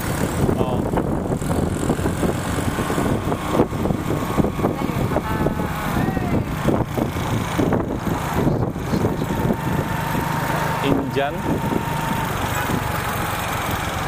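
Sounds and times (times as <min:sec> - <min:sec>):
motorcycle engine running: 0:00.0 - 0:14.0
street traffic: 0:00.0 - 0:14.0
wind rumble on microphone: 0:00.0 - 0:14.0.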